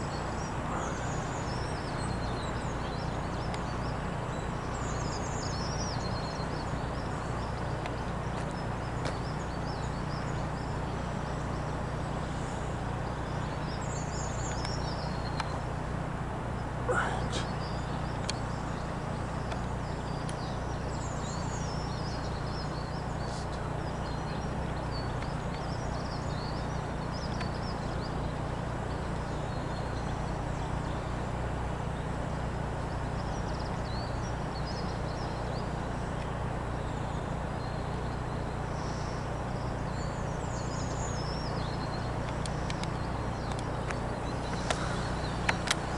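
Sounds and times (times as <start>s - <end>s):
distant jet engine rumble: 0.0s - 45.9s
small birds chirping: 0.0s - 45.9s.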